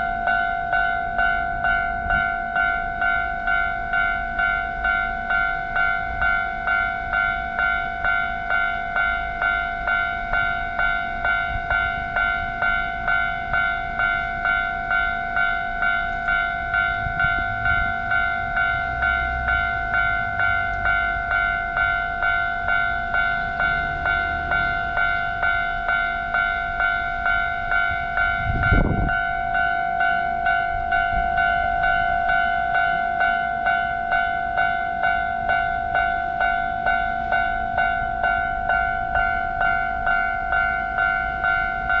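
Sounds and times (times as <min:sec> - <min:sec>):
level crossing bell clanging: 0:00.0 - 0:42.0
train rumbling past: 0:00.0 - 0:42.0.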